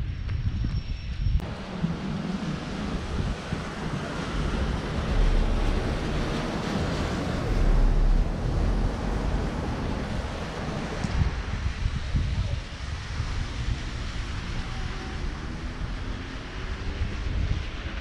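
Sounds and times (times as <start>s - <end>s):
heavy low rumble: 0.0s - 18.0s
wind buffeting microphone: 0.0s - 18.0s
steady outdoor hiss: 1.4s - 18.0s.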